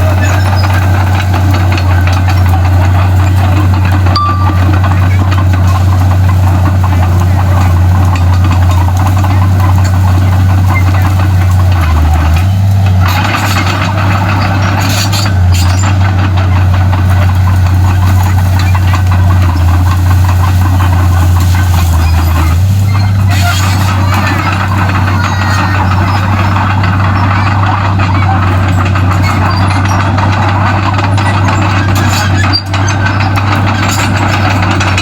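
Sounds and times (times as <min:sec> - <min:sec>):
bulldozer diesel engine droning: 0:00.0 - 0:35.0
harsh rattling: 0:00.0 - 0:35.0.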